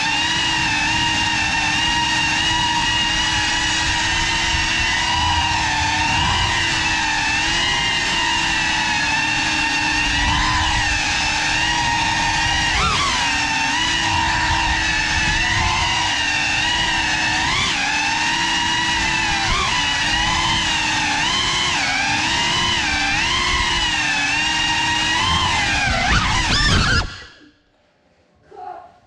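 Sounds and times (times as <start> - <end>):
drone motors whining: 0.0 - 27.7.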